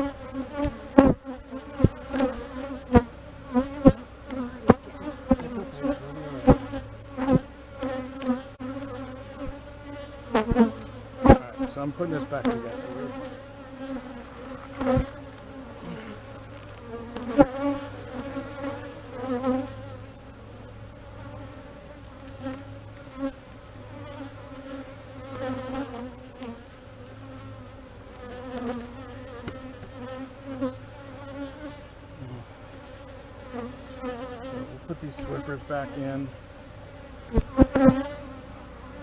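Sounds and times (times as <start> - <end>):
bees buzzing: 0.0 - 39.0.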